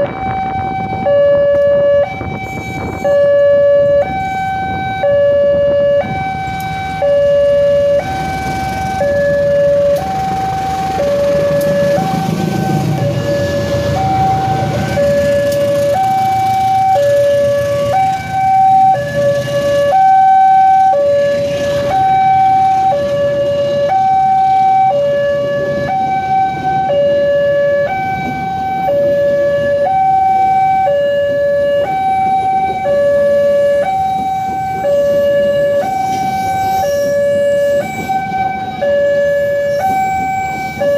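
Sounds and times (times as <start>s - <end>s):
level crossing two-tone alarm: 0.0s - 40.9s
passenger train rumbling past: 0.0s - 40.9s.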